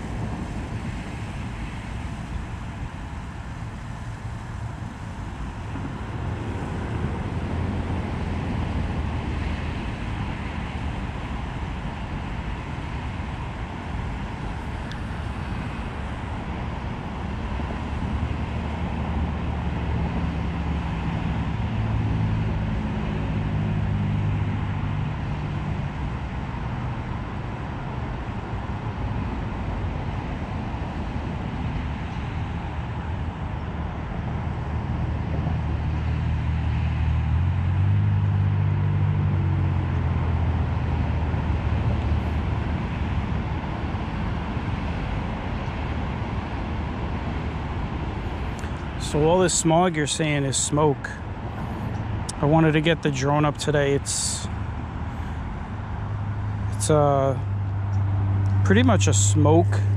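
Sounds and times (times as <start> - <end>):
highway traffic: 0.0 - 59.9
vehicles passing: 0.0 - 59.9.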